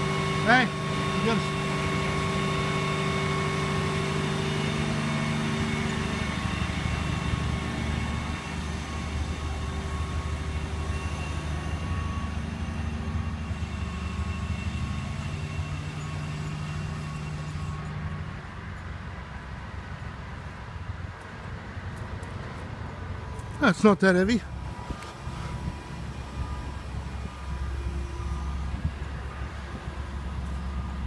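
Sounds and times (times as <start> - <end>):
whining tones: 0.0 - 19.0, 23.0 - 31.0
crane engine running: 0.0 - 31.0.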